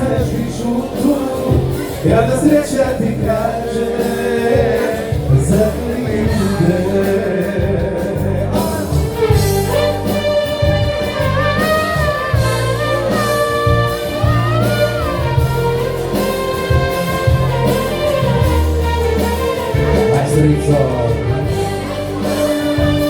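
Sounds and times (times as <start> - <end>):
band playing pop ballad: 0.0 - 23.0.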